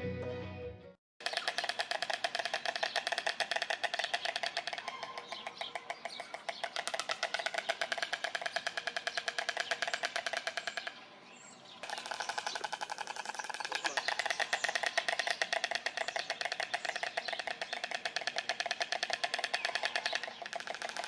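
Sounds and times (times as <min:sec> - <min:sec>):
storks bill-clattering: 0:01.2 - 0:11.0, 0:11.8 - 0:21.0.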